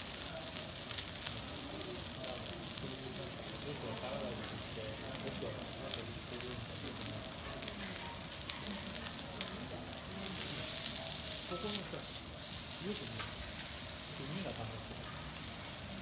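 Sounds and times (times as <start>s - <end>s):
meat sizzling on griddle: 0.0s - 16.0s.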